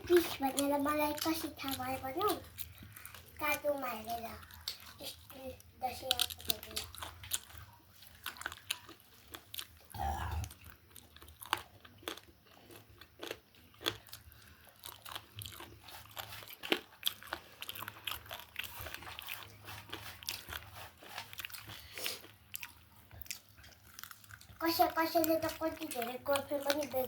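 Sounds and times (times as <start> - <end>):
chewing and crunchy bites: 0.1 - 27.0.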